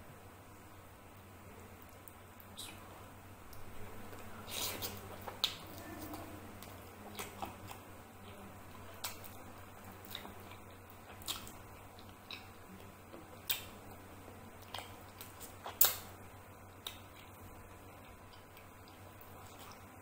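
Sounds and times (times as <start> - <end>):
mouth chewing food: 1.8 - 20.0.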